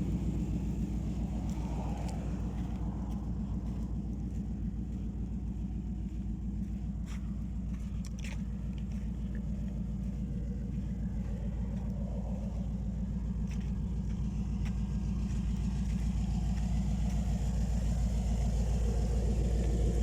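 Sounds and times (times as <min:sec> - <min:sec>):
engine rumbling steadily: 0:00.0 - 0:20.0.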